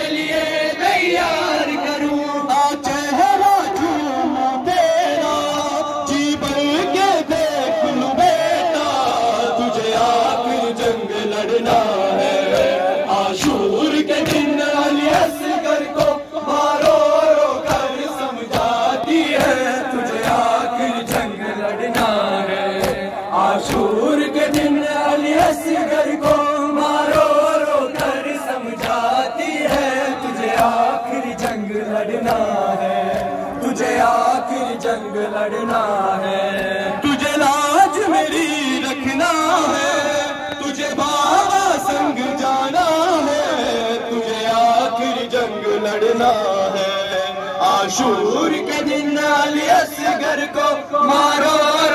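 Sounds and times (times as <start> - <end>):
men chanting a lament: 0.0 - 51.9.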